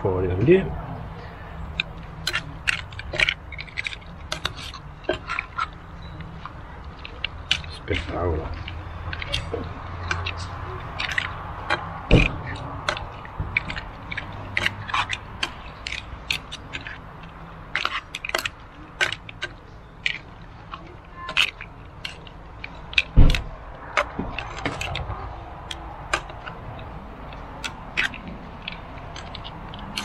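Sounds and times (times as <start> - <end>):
mussel shells clacking in a pan: 1.3 - 30.0.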